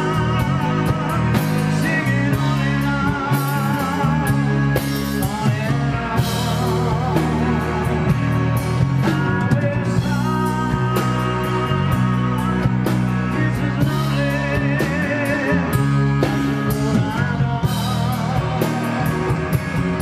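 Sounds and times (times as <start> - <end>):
bass guitar: 0.0 - 20.0
distorted electric guitars: 0.0 - 20.0
drum kit with cymbal hits: 0.0 - 20.0
man singing: 0.0 - 20.0.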